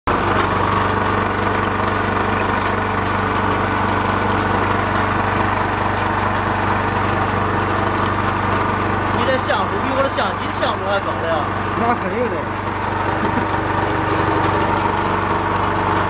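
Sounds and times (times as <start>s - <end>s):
pellet mill motor humming: 0.1s - 16.0s.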